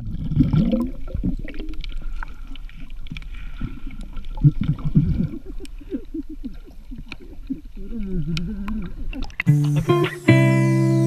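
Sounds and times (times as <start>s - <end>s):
low underwater rumble: 0.0s - 9.5s
underwater bubbling: 0.0s - 9.8s.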